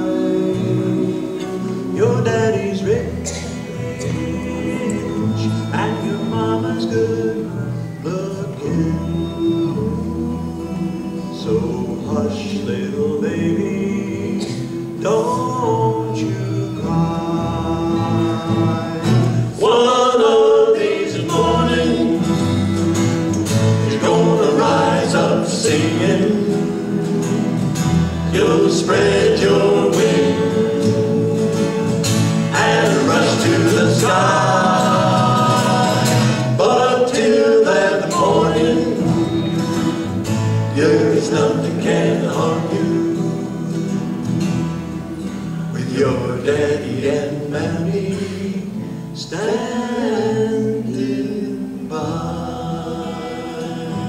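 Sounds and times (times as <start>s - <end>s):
male vocal group singing: 0.0s - 54.0s
strummed acoustic guitars: 0.0s - 54.0s.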